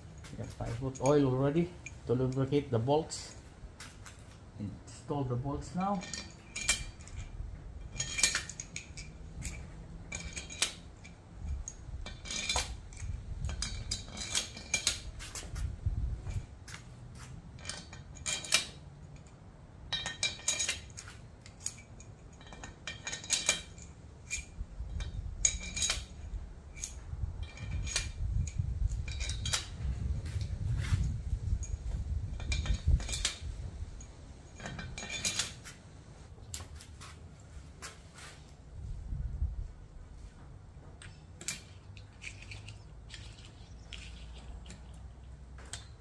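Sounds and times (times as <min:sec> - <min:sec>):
metal bolts clinking: 0:00.0 - 0:04.2, 0:05.2 - 0:15.6, 0:17.5 - 0:35.8, 0:41.0 - 0:46.0.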